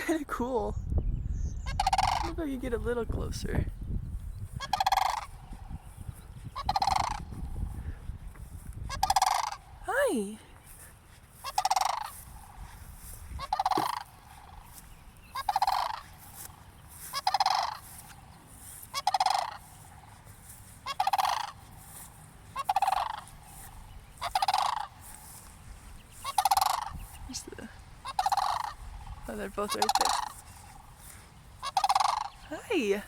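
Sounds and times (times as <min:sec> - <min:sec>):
cranes calling: 0:01.6 - 0:02.6, 0:04.2 - 0:33.0.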